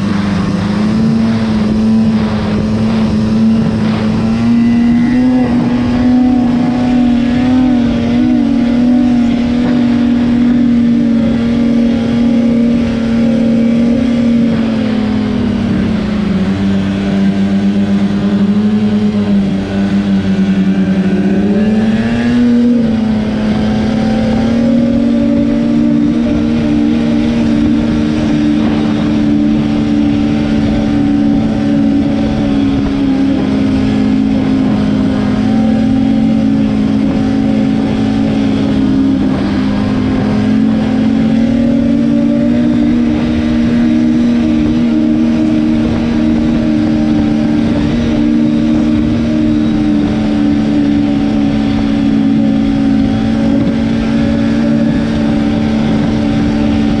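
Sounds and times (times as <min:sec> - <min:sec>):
snowmobile engine at high revs: 0:00.0 - 0:57.0.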